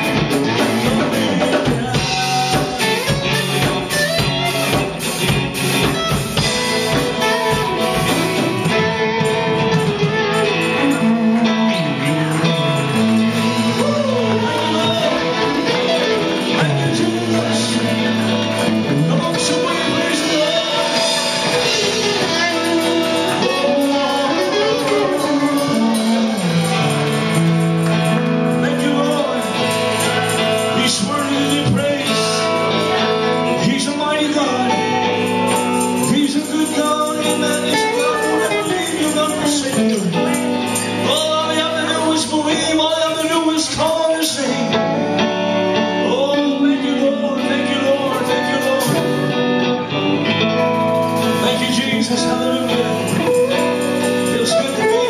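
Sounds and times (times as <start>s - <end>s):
electric guitar strumming: 0.0s - 55.0s
man singing: 0.0s - 55.0s.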